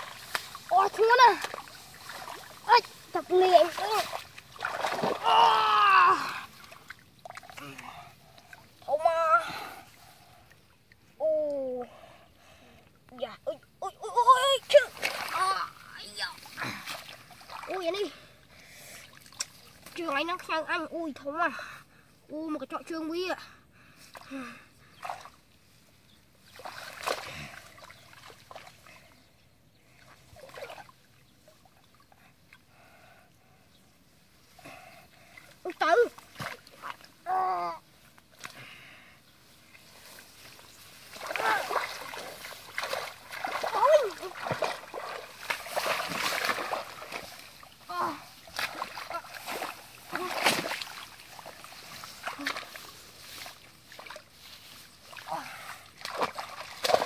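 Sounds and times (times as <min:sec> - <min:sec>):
muddy water splashing: 0:00.0 - 0:21.2, 0:23.8 - 0:57.0.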